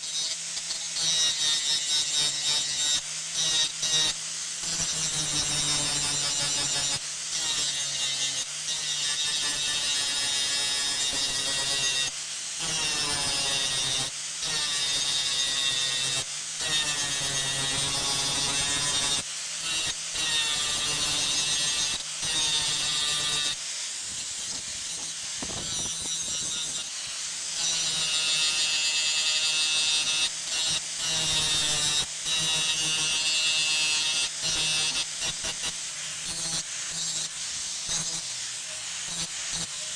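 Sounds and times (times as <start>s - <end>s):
angle grinder cutting steel: 0.0s - 39.9s.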